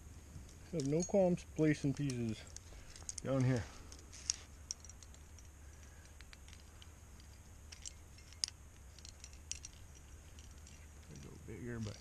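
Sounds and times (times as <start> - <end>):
climbing gear clinking: 0.3 - 12.0.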